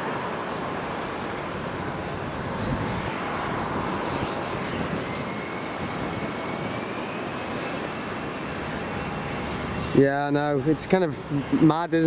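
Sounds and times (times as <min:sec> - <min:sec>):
aircraft engine roar: 0:00.0 - 0:12.0
faint rising whine: 0:00.0 - 0:12.0.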